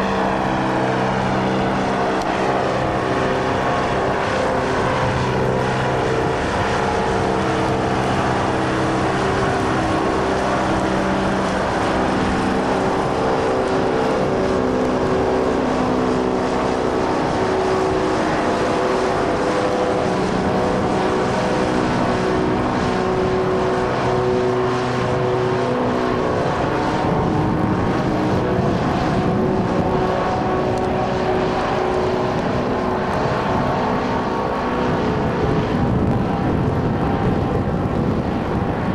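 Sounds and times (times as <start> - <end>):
airship propeller engines droning: 0.0 - 38.9.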